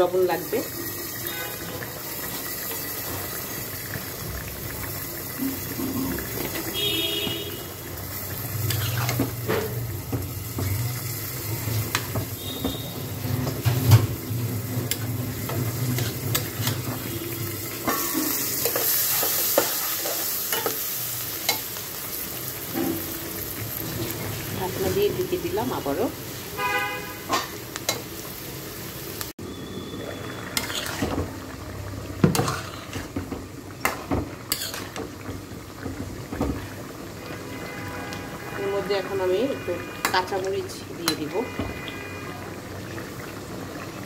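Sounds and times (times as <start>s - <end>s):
curry bubbling and sizzling: 0.0s - 44.0s.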